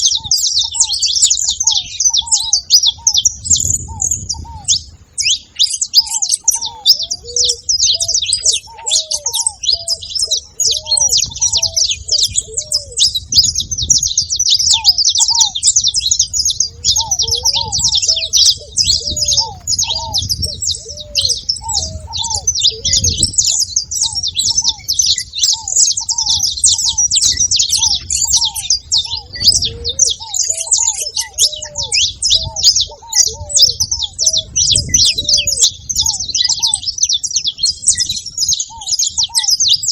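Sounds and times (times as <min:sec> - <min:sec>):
dove cooing: 0:00.0 - 0:39.9
finches chirping and singing: 0:00.0 - 0:39.9.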